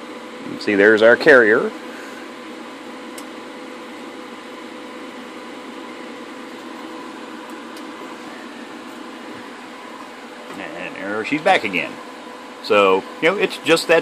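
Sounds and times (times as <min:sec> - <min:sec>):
cooling fan air rush: 0:00.0 - 0:14.0.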